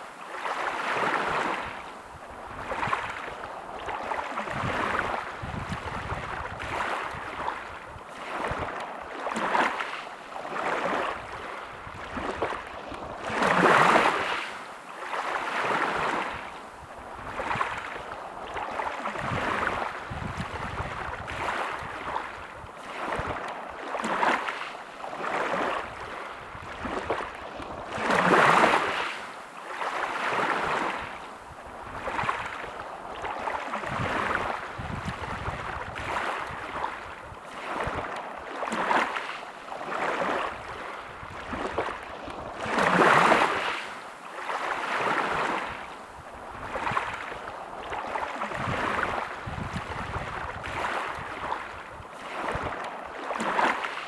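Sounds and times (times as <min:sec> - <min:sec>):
bigger waves breaking: 0:00.0 - 0:54.0
small waves washing onto beach: 0:00.0 - 0:54.0.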